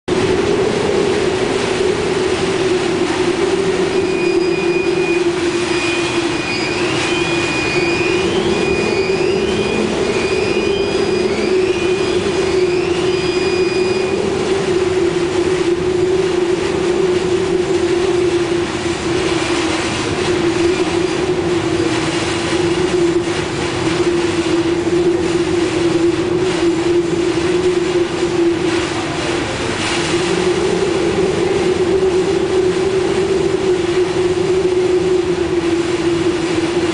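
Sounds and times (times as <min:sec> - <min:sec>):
wind roaring: 0:00.0 - 0:36.9
steady low howl: 0:00.1 - 0:36.9.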